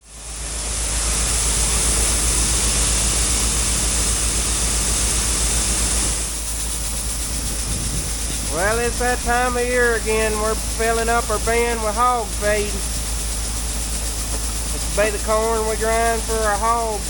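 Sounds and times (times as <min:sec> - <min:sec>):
low engine rumble: 0:00.1 - 0:17.0
steady rushing hiss: 0:00.1 - 0:17.0.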